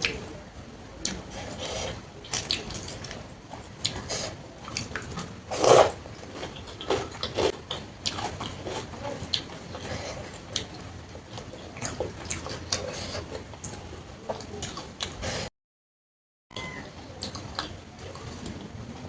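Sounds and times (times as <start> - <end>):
person chewing with smacks: 1.0 - 15.5, 16.6 - 18.7.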